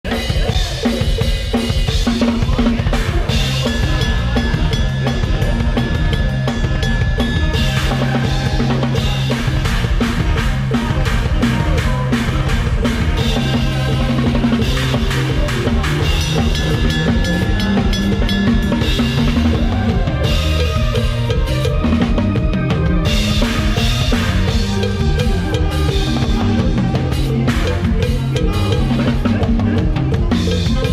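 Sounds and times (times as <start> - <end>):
band's pitched instruments: 0.0 - 30.9
drum kit groove: 0.0 - 30.9
sustained bass notes: 1.9 - 30.9
held high tone: 3.1 - 30.9.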